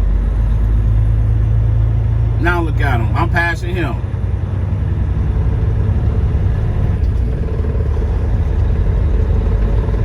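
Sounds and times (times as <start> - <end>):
diesel truck engine rumble: 0.0 - 10.0
road noise: 0.0 - 10.0.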